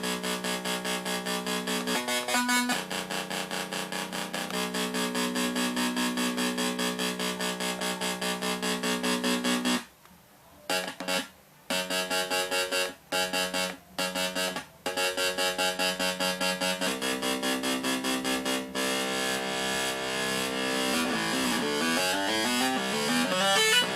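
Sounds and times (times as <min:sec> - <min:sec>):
buzzy pulsing synthesizer tone: 0:00.0 - 0:09.9, 0:10.6 - 0:23.9.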